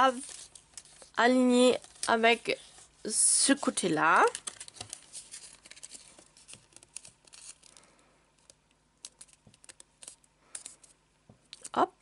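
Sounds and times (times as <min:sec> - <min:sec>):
paper folding and rustling: 0:00.0 - 0:11.0.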